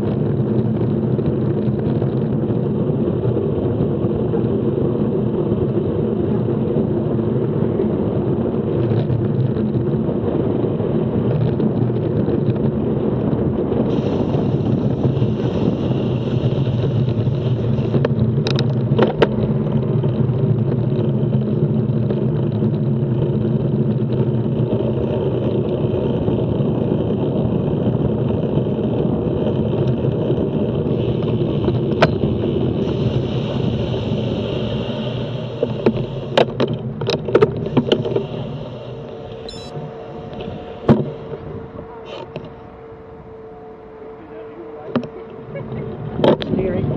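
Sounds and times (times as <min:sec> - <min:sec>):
road and traffic rumble: 0:00.0 - 0:46.9.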